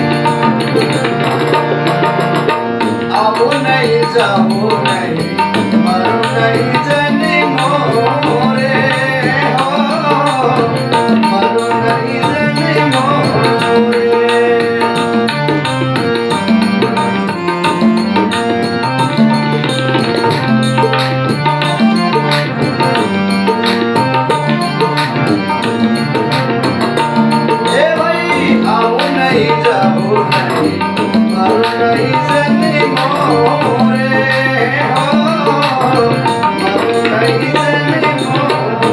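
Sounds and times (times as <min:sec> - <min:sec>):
hand drums beating: 0:00.0 - 0:38.9
instrumental melody: 0:00.0 - 0:38.9.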